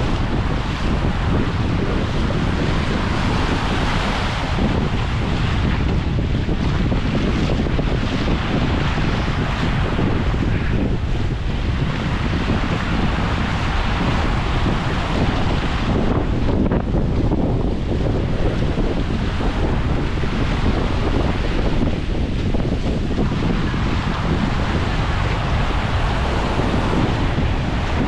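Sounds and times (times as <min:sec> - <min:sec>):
waves breaking on beach: 0:00.0 - 0:28.0
wind buffeting microphone: 0:00.0 - 0:28.0.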